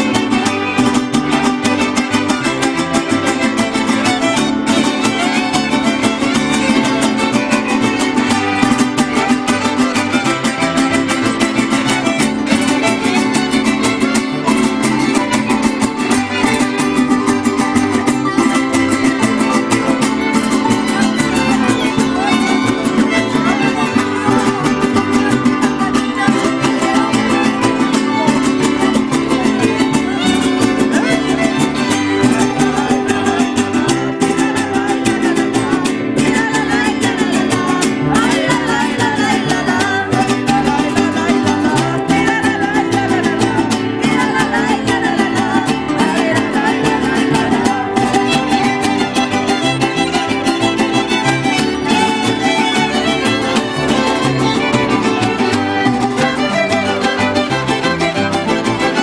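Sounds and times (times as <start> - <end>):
violins playing melody: 0.0 - 43.8, 44.4 - 59.0
guitars strumming: 0.0 - 59.0.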